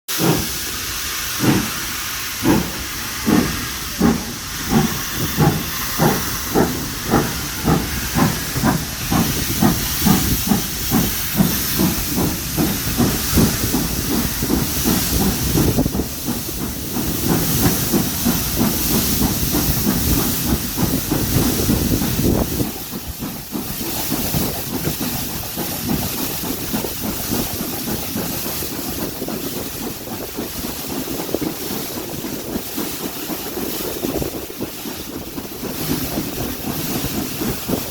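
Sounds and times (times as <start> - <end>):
steam locomotive exhaust beats: 0.1 - 37.9.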